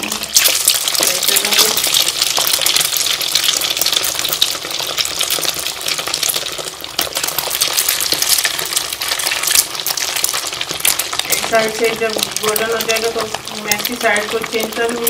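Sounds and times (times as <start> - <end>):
kababs sizzling in hot oil: 0.0 - 15.0.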